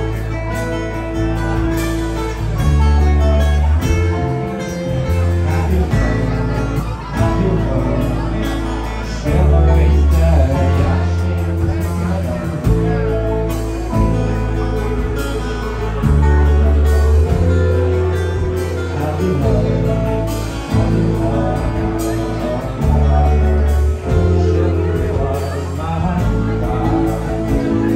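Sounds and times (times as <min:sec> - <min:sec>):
deep bass line: 0:00.0 - 0:27.9
person singing: 0:00.0 - 0:27.9
strummed acoustic guitars: 0:00.0 - 0:27.9.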